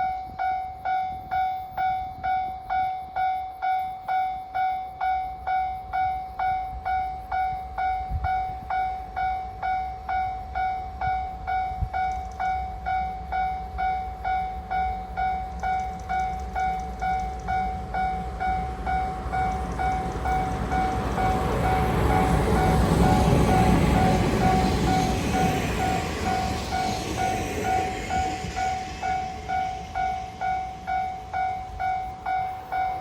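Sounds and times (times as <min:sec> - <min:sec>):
low train rumble: 0:00.0 - 0:33.0.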